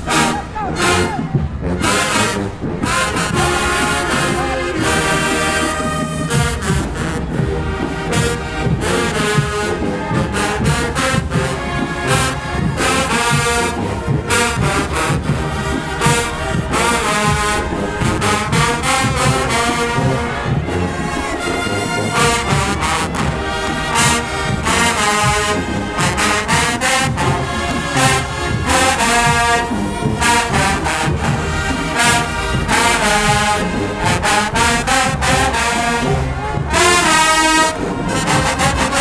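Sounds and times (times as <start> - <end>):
marching band brass: 0.0 - 39.0
steady drum beat: 0.0 - 39.0.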